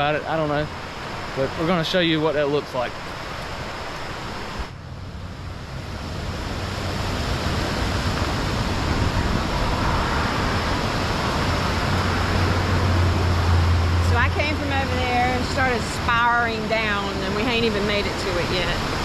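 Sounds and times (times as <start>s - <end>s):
water rushing through rapids: 0.0s - 19.0s.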